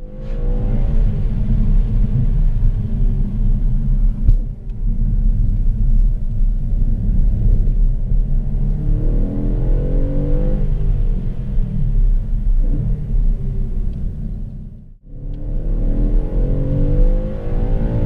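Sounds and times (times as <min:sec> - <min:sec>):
car exhaust deep rumble: 0:00.0 - 0:18.0.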